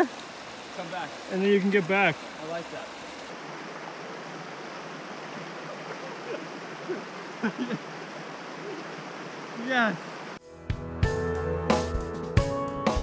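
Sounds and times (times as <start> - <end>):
creek water flowing: 0.0 - 10.4.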